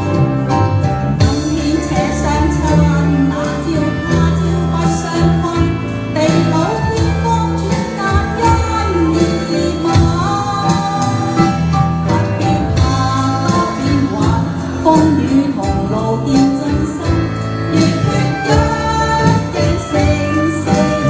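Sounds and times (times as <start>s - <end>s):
instrumental accompaniment: 0.0s - 21.0s
person singing: 1.2s - 21.0s.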